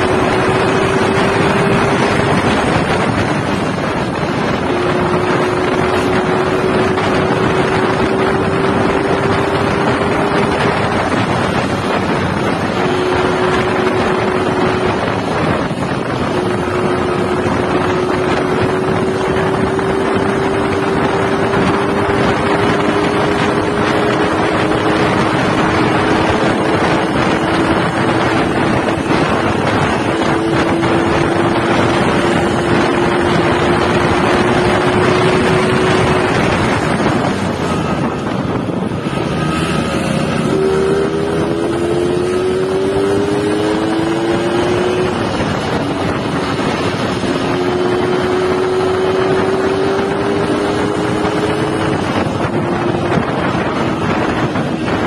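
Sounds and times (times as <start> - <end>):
two-stroke motorcycle engine: 0.0 - 55.0
wind noise on microphone: 0.0 - 55.0.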